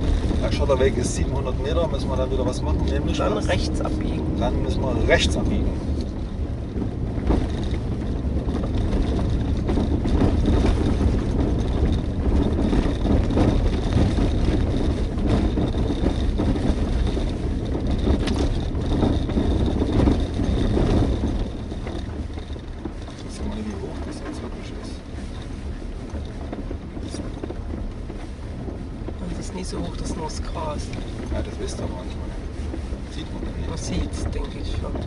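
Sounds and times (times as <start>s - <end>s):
car engine running: 0.0s - 35.0s
gravel rumbling under tyres: 0.0s - 35.0s.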